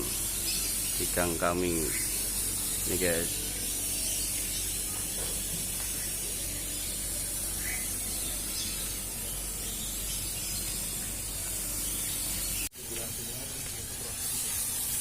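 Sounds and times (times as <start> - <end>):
fogging machine hissing: 0.0 - 15.0.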